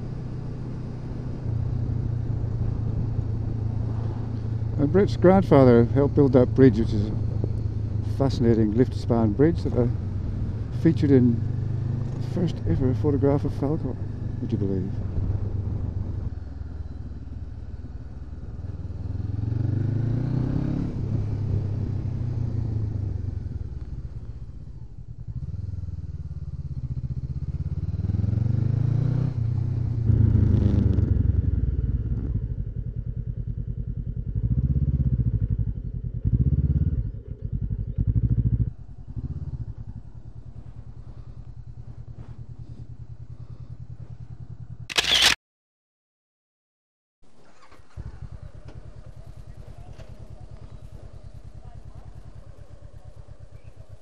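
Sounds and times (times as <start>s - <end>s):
motorcycle engine idling: 0.0s - 19.9s, 21.2s - 28.5s, 31.1s - 44.9s, 47.3s - 54.0s
motorcycle engine revving: 0.0s - 45.4s, 47.3s - 54.0s
motorcycle engine running: 0.0s - 45.4s, 47.3s - 54.0s.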